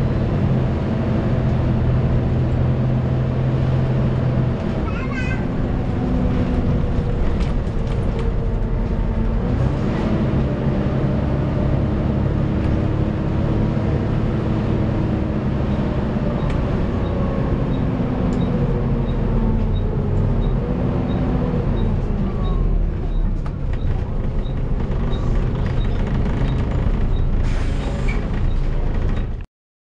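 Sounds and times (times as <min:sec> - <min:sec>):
bus diesel engine: 0:00.0 - 0:29.5.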